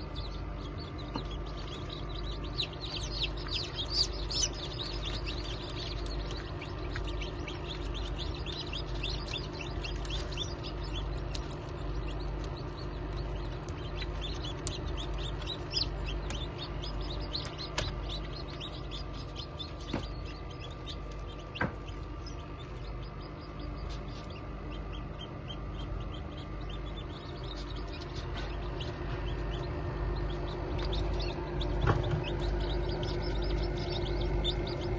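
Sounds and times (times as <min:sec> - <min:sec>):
chicks peeping: 0:00.0 - 0:34.9
steady low hum: 0:00.0 - 0:34.9.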